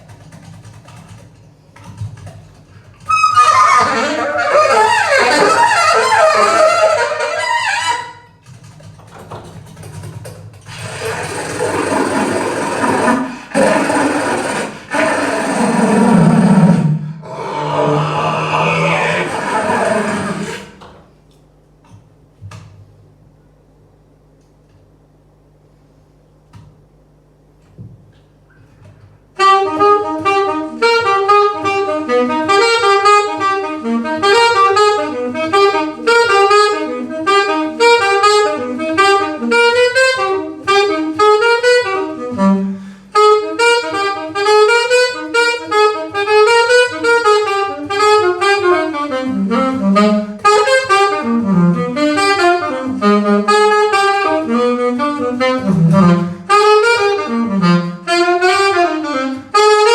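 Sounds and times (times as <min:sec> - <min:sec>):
saxophone playing jazz lines: 0:00.0 - 0:21.1, 0:28.6 - 0:59.9.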